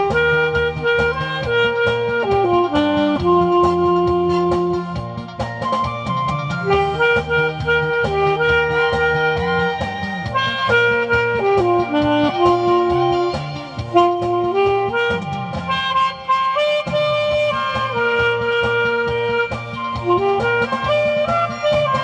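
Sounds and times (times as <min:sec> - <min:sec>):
alto saxophone melody: 0:00.0 - 0:22.0
backing track with bass and beat: 0:00.0 - 0:22.0.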